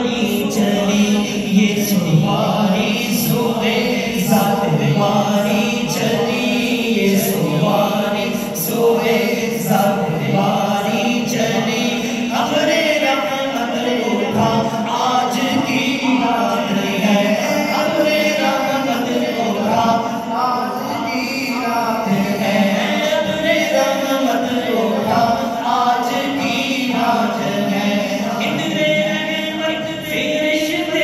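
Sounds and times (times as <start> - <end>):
men singing devotional chant: 0.0 - 31.0.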